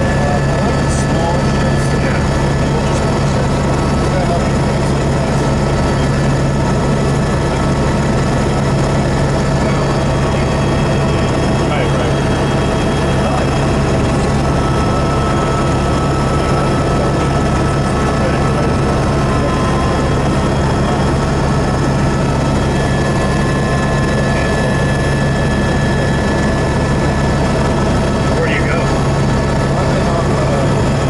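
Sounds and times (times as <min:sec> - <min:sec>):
helicopter engine and rotor hum: 0:00.0 - 0:31.0.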